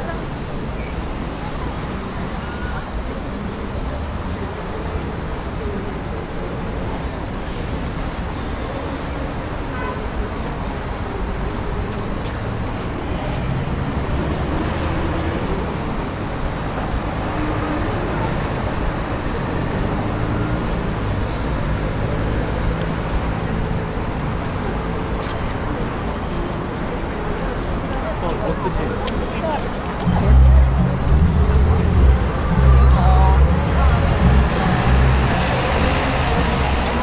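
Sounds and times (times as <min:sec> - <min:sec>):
city street traffic: 0:00.0 - 0:37.0.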